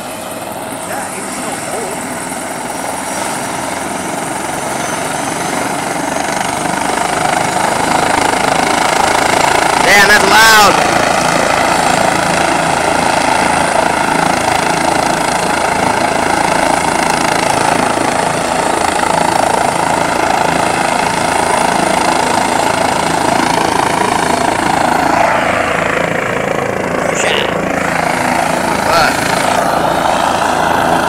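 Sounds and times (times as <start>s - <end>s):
helicopter turbine and rotor: 0.0s - 31.0s.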